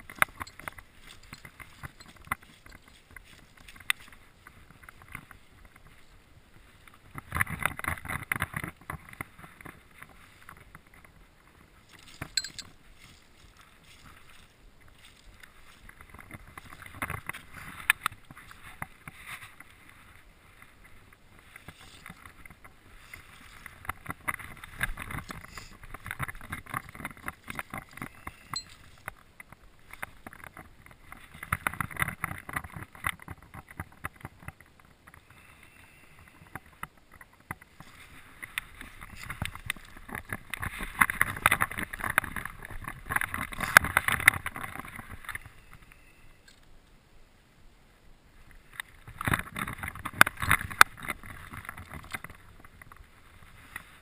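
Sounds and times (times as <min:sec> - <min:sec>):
rustling and crackling on gravel: 0:00.0 - 0:47.0, 0:48.4 - 0:54.0.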